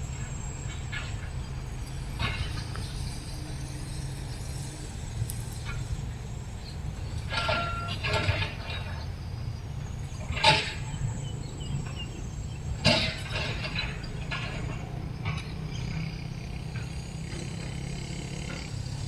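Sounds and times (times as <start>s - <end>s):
freight train rumbling by: 0.0s - 19.0s
metallic clanks from wagons: 0.0s - 19.0s.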